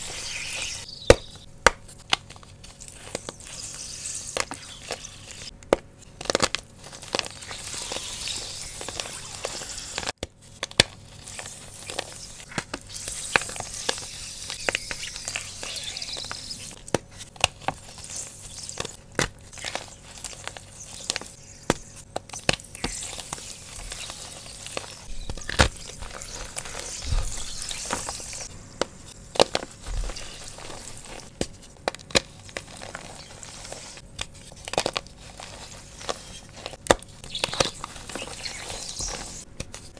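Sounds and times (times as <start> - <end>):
hissing sizzle: 0.0 - 5.5, 6.8 - 10.2, 11.1 - 31.3, 32.0 - 34.4, 35.1 - 39.5
chalk crunching in wet hands: 6.3 - 39.5.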